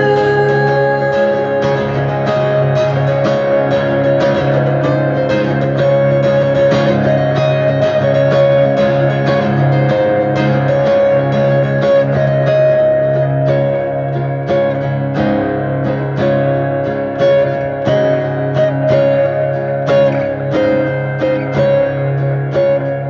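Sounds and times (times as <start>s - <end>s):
guitar-led instrumental music: 0.0s - 23.0s.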